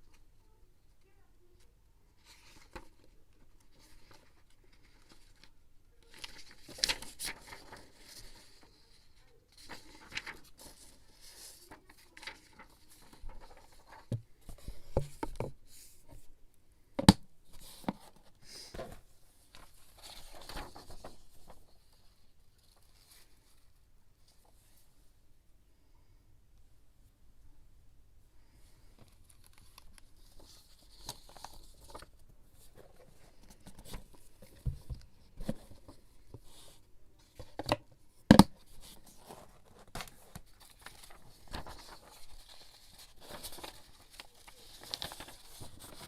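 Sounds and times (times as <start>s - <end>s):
paper rustling and crinkling: 2.2s - 16.3s, 17.5s - 23.7s, 28.7s - 37.8s, 38.5s - 46.0s.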